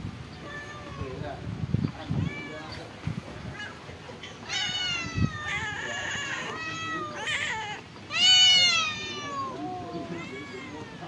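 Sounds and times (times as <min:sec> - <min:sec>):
cat meowing: 0:00.4 - 0:01.2, 0:02.0 - 0:02.8, 0:03.5 - 0:11.0.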